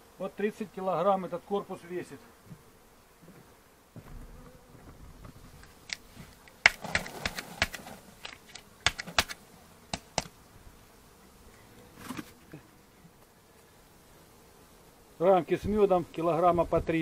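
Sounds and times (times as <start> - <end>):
bees buzzing faintly: 0.0 - 17.0.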